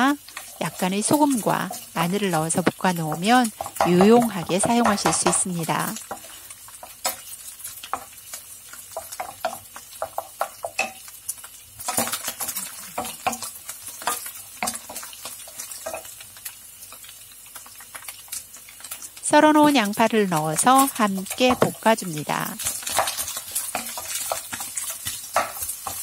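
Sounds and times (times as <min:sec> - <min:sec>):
faint oil sizzle: 0:00.0 - 0:26.0
wooden spoon scraping frying pan: 0:00.2 - 0:11.1, 0:11.8 - 0:17.1, 0:20.6 - 0:26.0.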